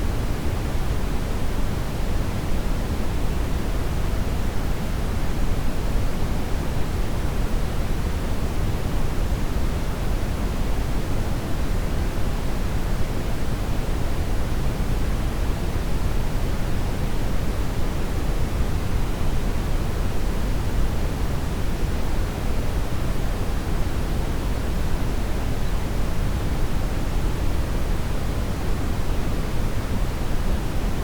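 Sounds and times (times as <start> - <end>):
brown noise hiss: 0.0 - 31.0.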